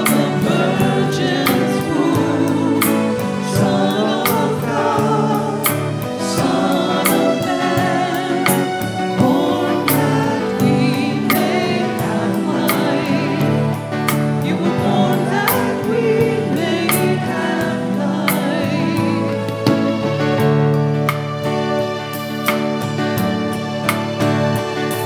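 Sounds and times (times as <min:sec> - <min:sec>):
group singing a hymn: 0:00.0 - 0:20.6
instrumental accompaniment: 0:00.0 - 0:25.0.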